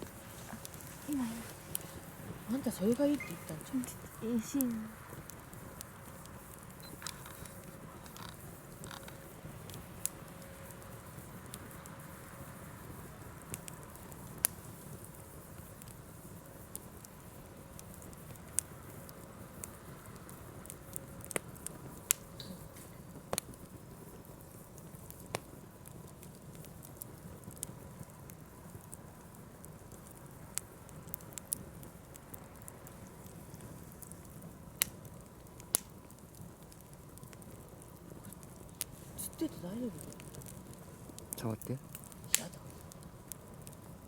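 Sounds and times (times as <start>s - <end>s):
campfire crackling and popping: 0.0s - 44.0s
flames hissing: 0.0s - 44.0s.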